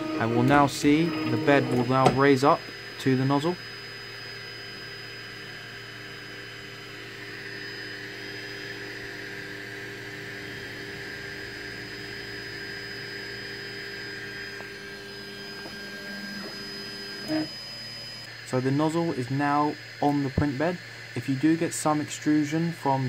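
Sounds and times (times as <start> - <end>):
printer fans running: 0.0 - 23.0
stepper motors whining: 0.0 - 23.0.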